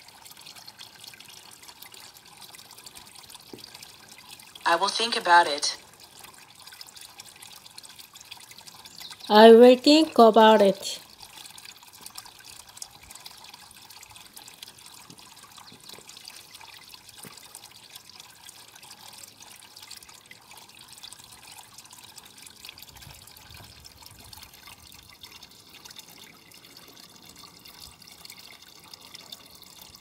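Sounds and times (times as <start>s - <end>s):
water trickling into basin: 0.0s - 30.0s.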